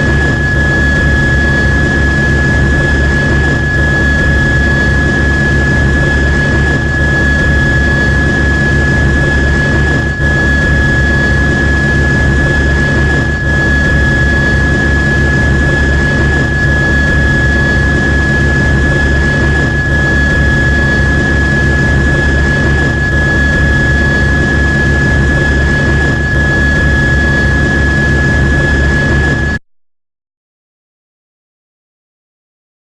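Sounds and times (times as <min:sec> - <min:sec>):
helicopter turbine whine: 0:00.0 - 0:29.6
rotor pulsing: 0:00.0 - 0:29.6.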